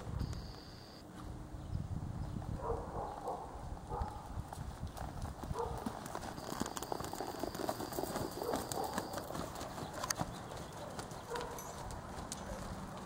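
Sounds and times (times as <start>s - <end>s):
horse hoofbeats on sandy dirt: 2.4s - 13.0s.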